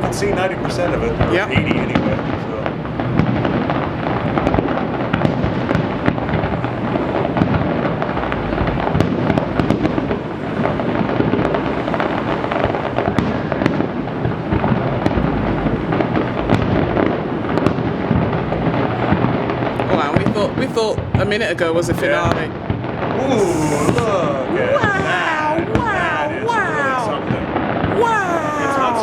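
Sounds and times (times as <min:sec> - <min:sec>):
fireworks booming: 0:00.0 - 0:29.0
fireworks crackling: 0:00.0 - 0:29.0.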